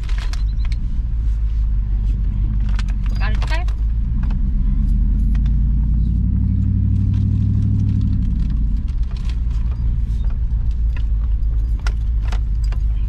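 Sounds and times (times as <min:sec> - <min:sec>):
small rattles and clicks: 0:00.0 - 0:05.7, 0:06.9 - 0:13.0
road rumble: 0:00.0 - 0:13.0
vehicle engine hum: 0:00.0 - 0:13.0.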